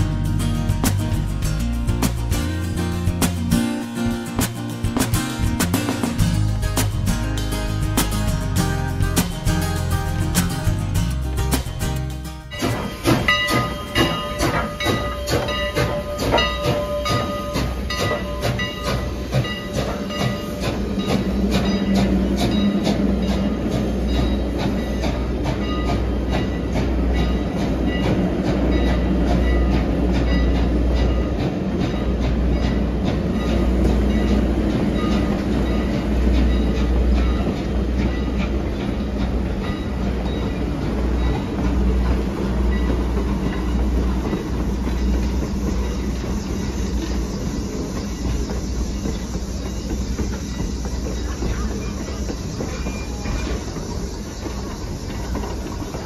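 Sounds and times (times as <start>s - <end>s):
train coaches rumbling: 0.0s - 56.0s
wheels clicking over rail joints: 0.0s - 56.0s.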